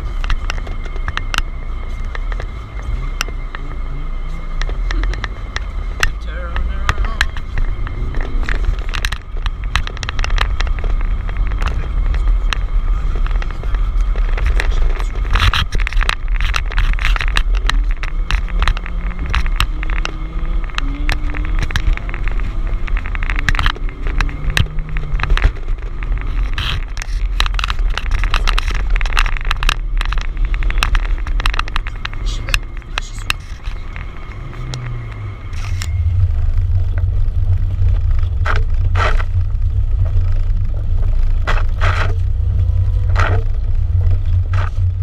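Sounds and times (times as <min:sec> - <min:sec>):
sharp clicks and knocks: 0:00.0 - 0:03.7, 0:04.6 - 0:45.0
car engine and road rumble: 0:00.0 - 0:45.0.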